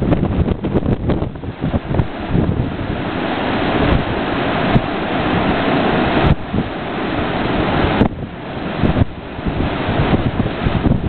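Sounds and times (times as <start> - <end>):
surf breaking over rocks: 0.0 - 11.0
wind buffeting microphone: 0.0 - 11.0.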